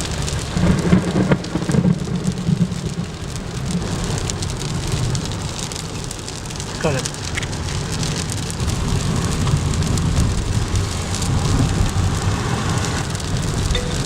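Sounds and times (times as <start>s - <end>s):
heavy rain pelting on car: 0.0s - 14.0s.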